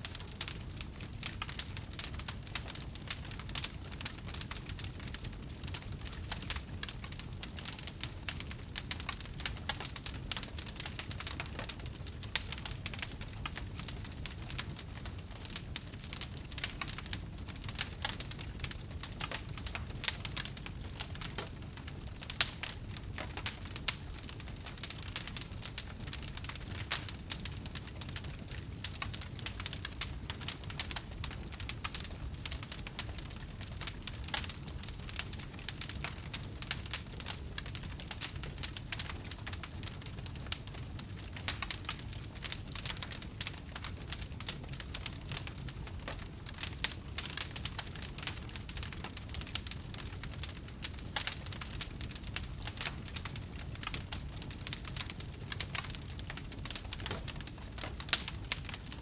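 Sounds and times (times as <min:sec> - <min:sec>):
bonfire crackling and popping: 0:00.0 - 0:59.0.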